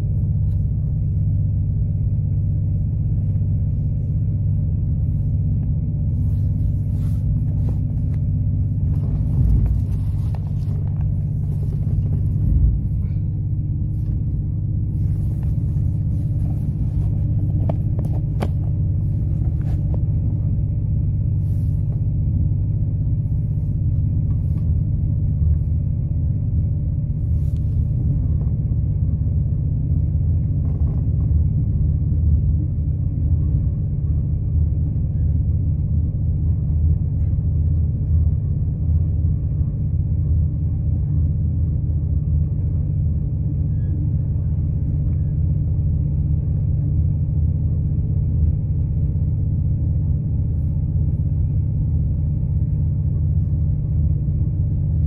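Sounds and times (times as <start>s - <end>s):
train engine rumble: 0.0s - 55.0s.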